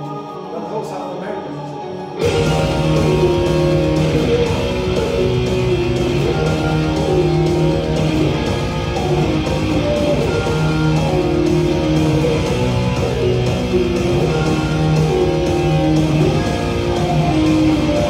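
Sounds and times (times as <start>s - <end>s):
electric guitar held notes: 1.9s - 18.0s
metal backing track with drums: 2.2s - 18.0s.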